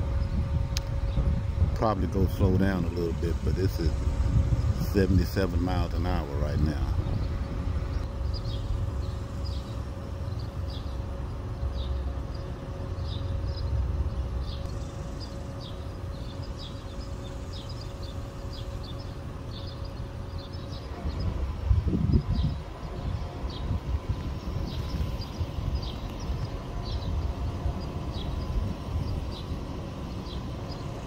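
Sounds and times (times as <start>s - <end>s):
approaching train rumble: 0.0s - 31.0s
faint steady hum: 0.0s - 31.0s
small birds chirping: 0.0s - 31.0s.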